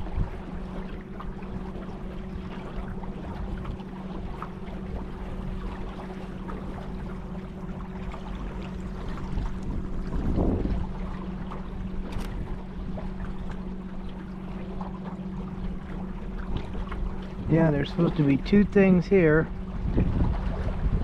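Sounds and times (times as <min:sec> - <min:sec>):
steady low hum: 0:00.0 - 0:21.0
water splashing against boat hull: 0:00.0 - 0:21.0.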